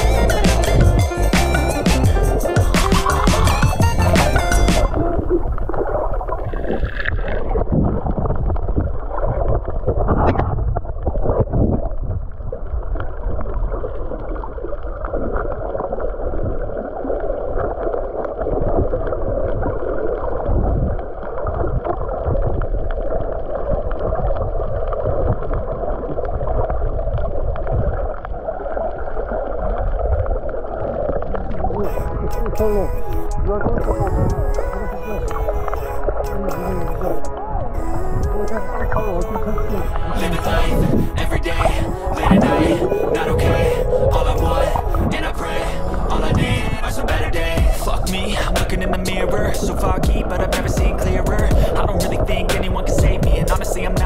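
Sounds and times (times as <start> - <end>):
underwater rush of water: 0.0 - 54.0.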